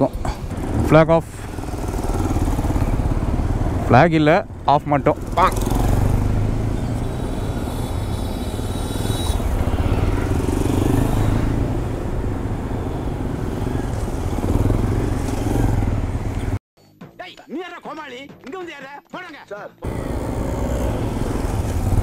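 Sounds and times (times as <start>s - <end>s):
motorcycle engines running: 0.0s - 16.6s, 19.8s - 22.0s
road noise: 0.0s - 16.6s, 19.8s - 22.0s.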